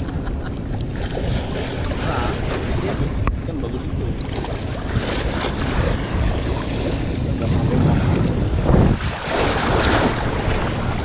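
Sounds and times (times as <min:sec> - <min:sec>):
waves splashing against breakwater: 0:00.0 - 0:11.0
wind buffeting microphone: 0:00.0 - 0:11.0.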